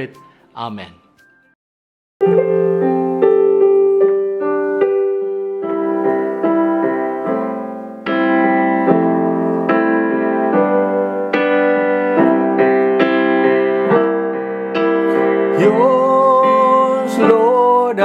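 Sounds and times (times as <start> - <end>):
solo piano melody over chords: 2.2 - 18.0.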